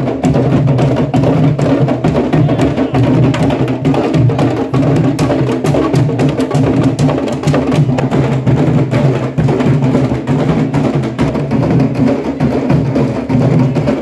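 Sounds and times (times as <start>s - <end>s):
drum section playing rhythm: 0.0s - 14.0s.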